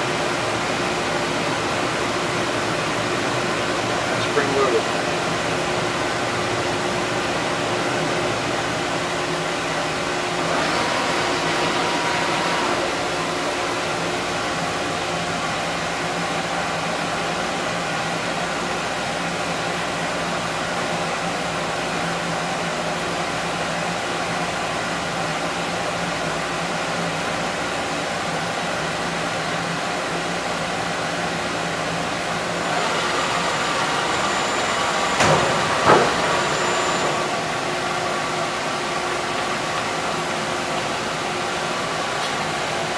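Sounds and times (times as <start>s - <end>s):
machine mechanical hum: 0.0s - 42.9s.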